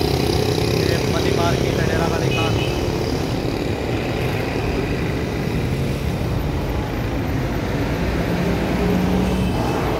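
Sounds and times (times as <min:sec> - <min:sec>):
roadside traffic noise: 0:00.0 - 0:09.9.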